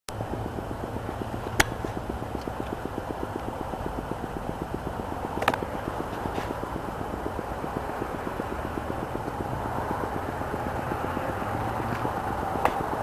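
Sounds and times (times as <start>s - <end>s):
car engine running: 0.1s - 13.0s
fast even ticking: 0.1s - 13.0s
sharp clicks: 0.1s - 13.0s.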